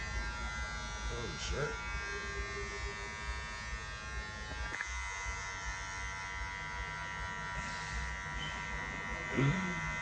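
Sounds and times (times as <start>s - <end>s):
electric hair trimmer buzzing: 0.0s - 10.0s.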